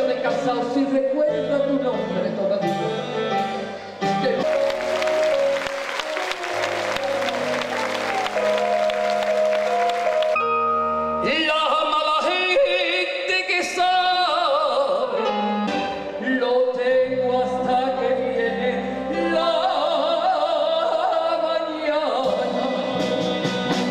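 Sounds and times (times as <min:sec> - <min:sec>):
live band playing: 0:00.0 - 0:20.0, 0:22.2 - 0:23.9.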